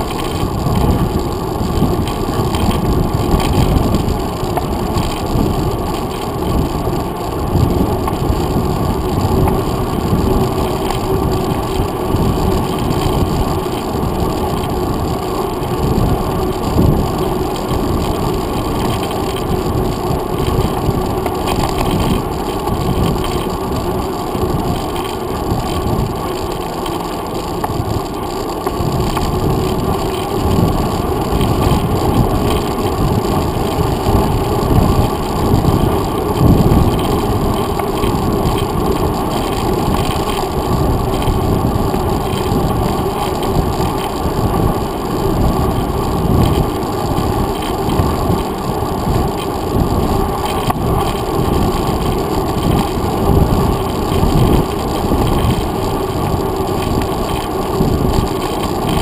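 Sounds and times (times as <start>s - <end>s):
bicycle tyre noise on pavement: 0.0s - 59.0s
wind buffeting: 0.0s - 59.0s.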